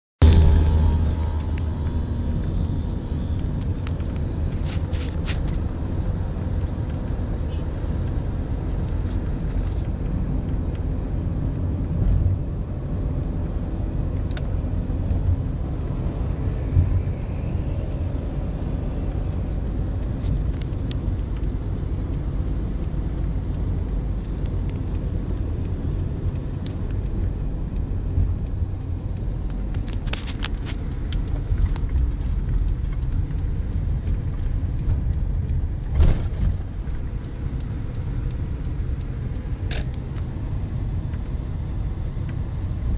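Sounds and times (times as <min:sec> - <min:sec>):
car engine and road noise: 0:00.2 - 0:42.9.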